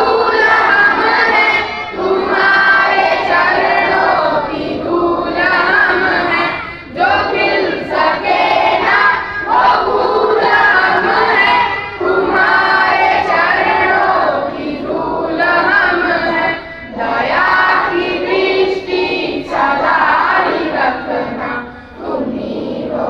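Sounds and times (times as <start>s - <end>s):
children singing in unison: 0.0s - 23.0s.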